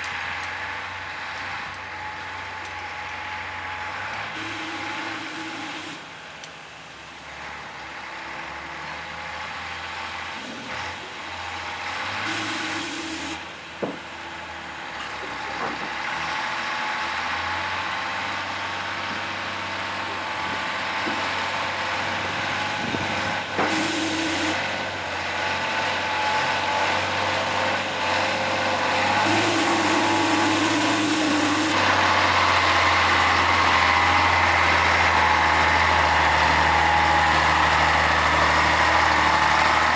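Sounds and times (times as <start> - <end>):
diesel truck engine running: 3.4 - 39.9.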